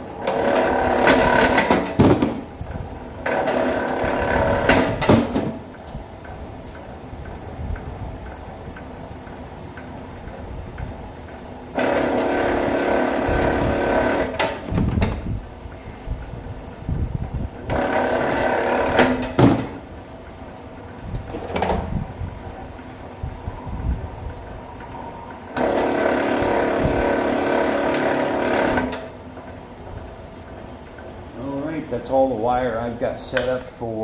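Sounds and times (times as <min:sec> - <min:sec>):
wire stripping machine motor hum: 0:00.0 - 0:23.4, 0:24.0 - 0:31.7.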